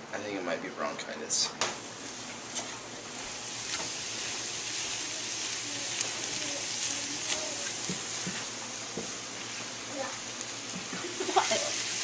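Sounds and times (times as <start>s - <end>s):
meat and onion sizzling in a pan: 1.7s - 12.0s
spatula stirring in a pan: 2.0s - 12.0s.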